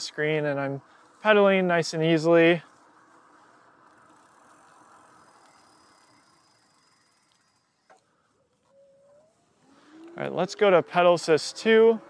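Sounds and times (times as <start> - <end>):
faint bike riding noise: 0.0 - 12.0.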